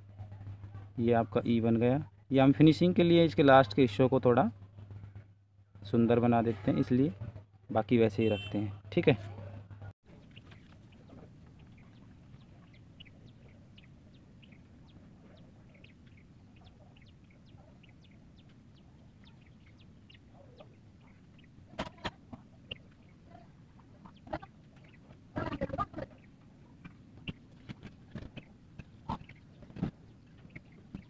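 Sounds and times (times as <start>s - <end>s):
birds chirping: 0.0s - 31.0s
low steady background noise: 0.0s - 31.0s.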